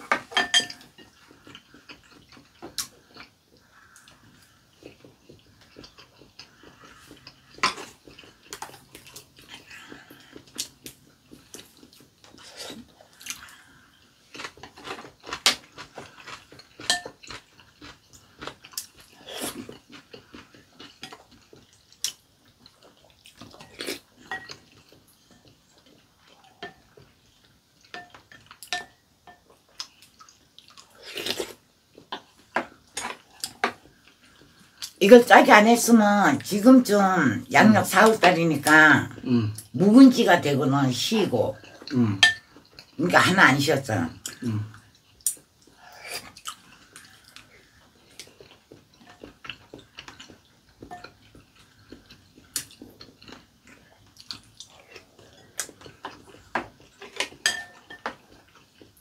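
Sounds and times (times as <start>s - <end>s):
people chewing: 0.0s - 35.0s, 41.5s - 43.0s, 44.1s - 59.0s.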